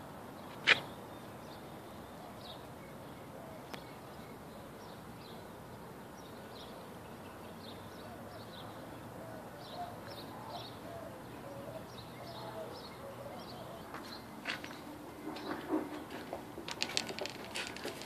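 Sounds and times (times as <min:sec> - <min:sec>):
faint outdoor background: 0:00.0 - 0:18.0
small birds chirping: 0:00.4 - 0:18.0.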